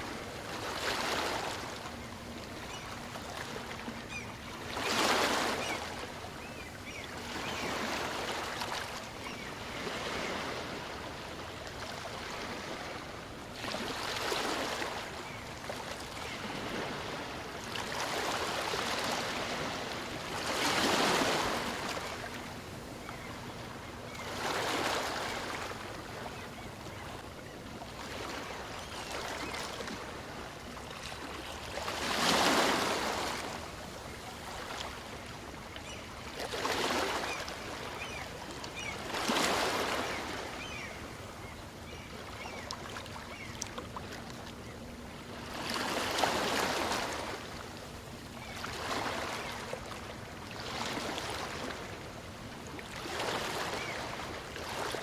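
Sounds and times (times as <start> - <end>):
small waves breaking on beach: 0.0 - 2.0, 2.6 - 23.2, 27.9 - 44.6, 45.3 - 55.0.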